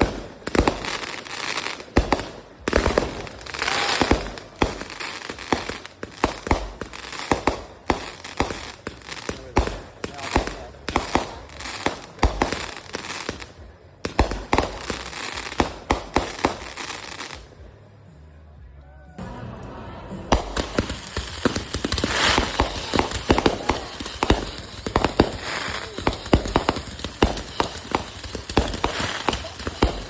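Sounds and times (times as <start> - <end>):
firework bangs: 0.0 - 17.6, 19.2 - 30.0
firework crackling: 0.0 - 17.6, 19.2 - 30.0.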